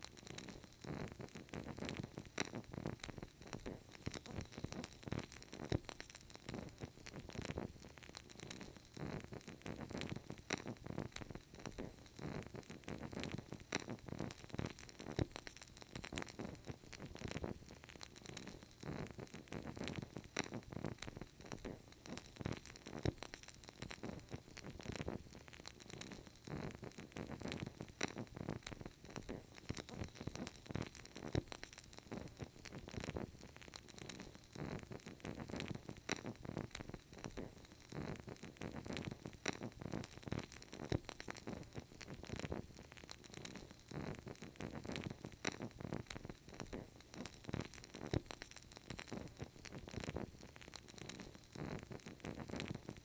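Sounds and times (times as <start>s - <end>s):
candle crackling softly: 0.0s - 53.0s.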